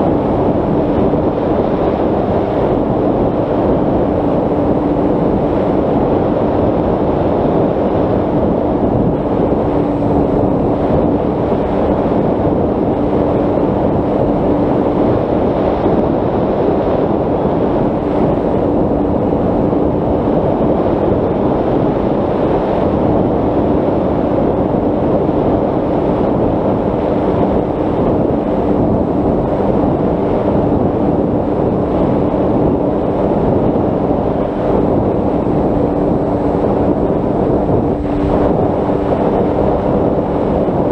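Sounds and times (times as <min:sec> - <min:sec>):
electric motor and propeller drone: 0:00.0 - 0:40.9
wind on microphone: 0:00.0 - 0:40.9.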